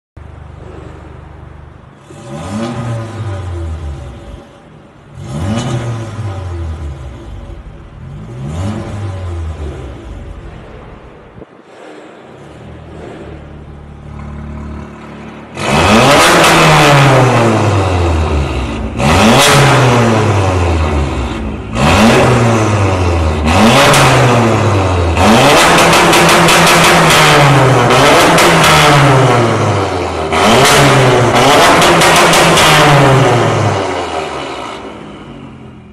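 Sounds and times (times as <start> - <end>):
car engine idling and revving: 0.2 - 11.6, 12.2 - 35.9.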